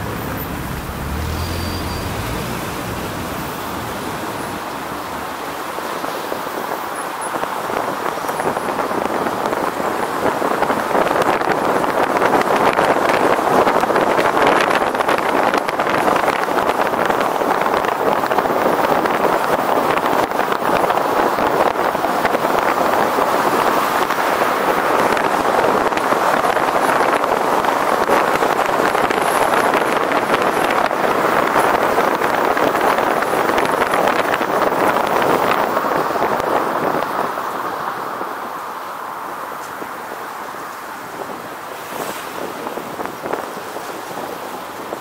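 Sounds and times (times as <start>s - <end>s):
wind on microphone: 0.0s - 38.7s, 40.9s - 45.0s
road noise: 0.0s - 45.0s
vehicle driving through streets: 0.0s - 45.0s.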